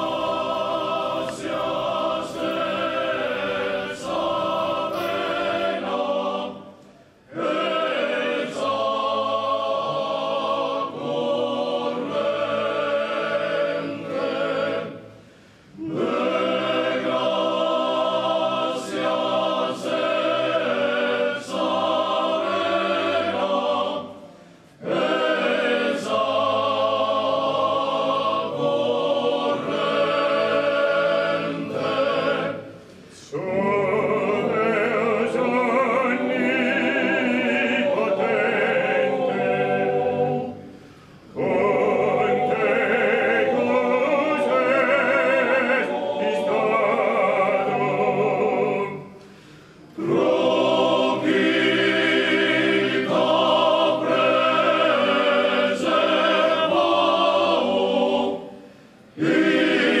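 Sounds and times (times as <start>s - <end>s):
choir singing sacred music: 0.0s - 60.0s.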